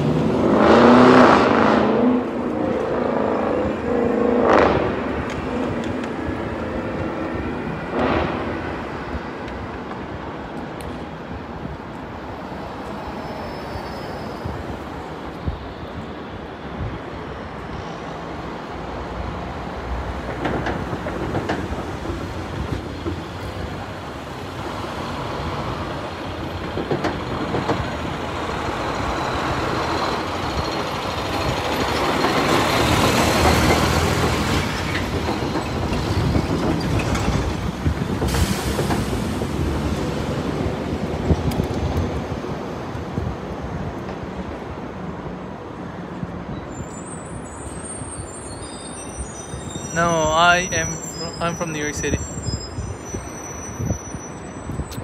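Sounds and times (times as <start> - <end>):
city street traffic: 0.0 - 55.0.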